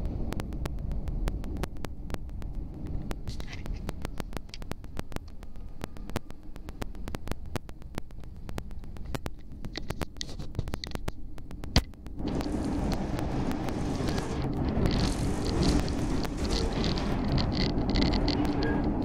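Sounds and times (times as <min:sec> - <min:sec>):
sharp clicks of wheels: 0:00.0 - 0:19.0
train car rumbling: 0:00.0 - 0:19.0.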